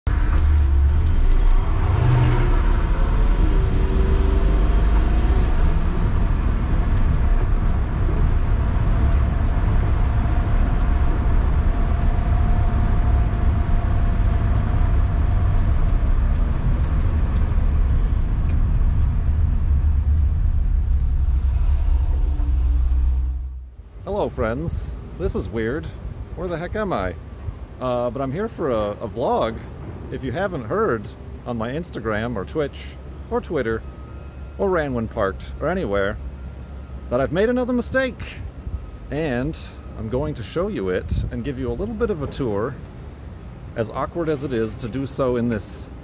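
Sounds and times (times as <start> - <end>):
car engine and road noise: 0.0 - 46.0.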